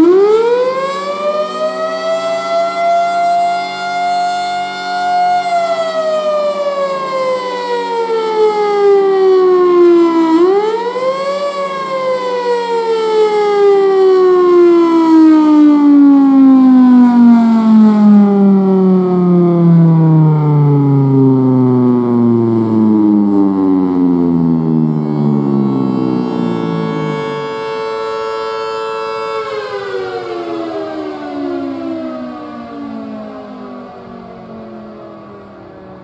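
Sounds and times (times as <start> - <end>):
siren wailing: 0.0 - 36.0.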